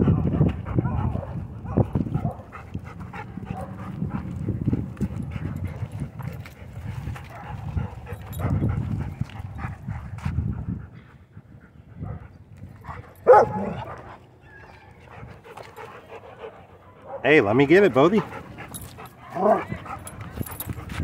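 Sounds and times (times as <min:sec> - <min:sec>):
dogs panting: 0:00.0 - 0:21.0.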